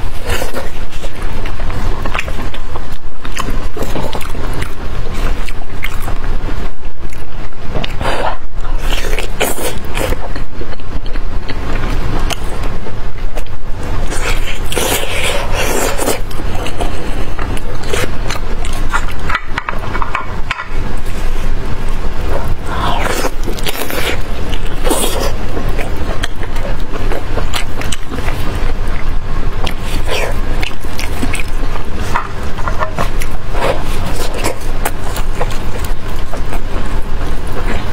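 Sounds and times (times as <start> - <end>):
person chewing meat: 0.0 - 37.9.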